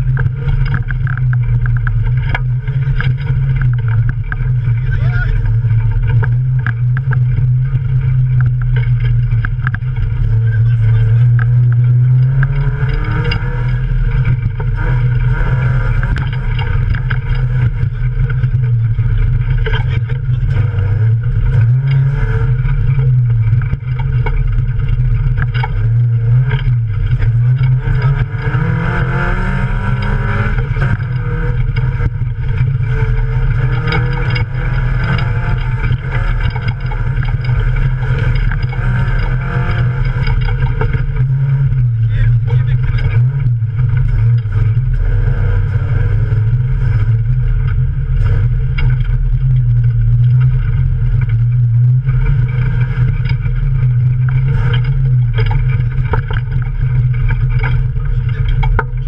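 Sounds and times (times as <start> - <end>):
bodywork knocks and rattles: 0.0 - 59.0
car engine revving: 0.0 - 59.0.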